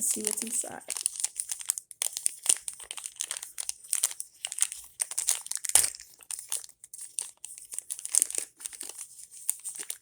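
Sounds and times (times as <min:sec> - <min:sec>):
plastic packet crinkling: 0:00.0 - 0:10.0.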